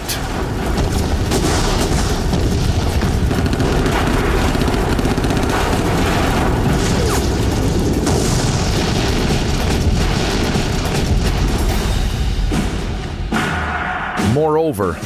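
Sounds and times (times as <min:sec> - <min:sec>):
low rumble of explosions: 0:00.0 - 0:13.3.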